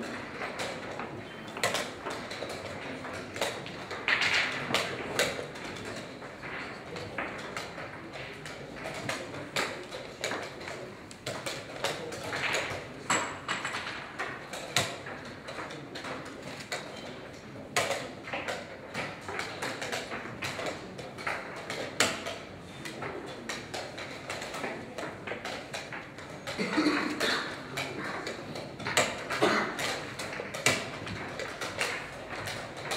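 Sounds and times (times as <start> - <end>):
chess pieces clacking on boards: 0.0 - 32.9
room background din: 0.0 - 32.9.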